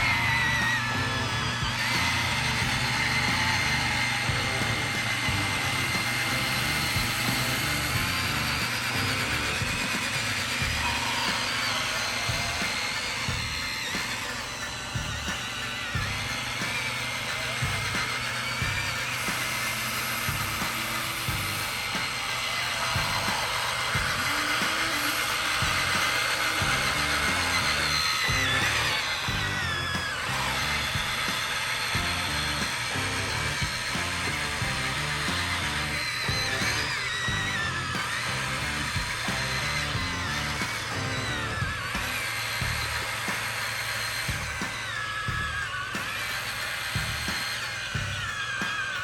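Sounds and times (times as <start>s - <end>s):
electric motors whining: 0.0s - 49.0s.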